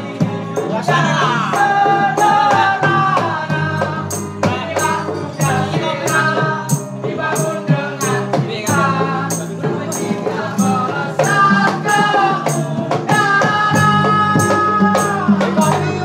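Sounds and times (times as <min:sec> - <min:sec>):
bass guitar: 0:00.0 - 0:16.0
hand drums: 0:00.0 - 0:16.0
male voices singing together: 0:00.0 - 0:16.0.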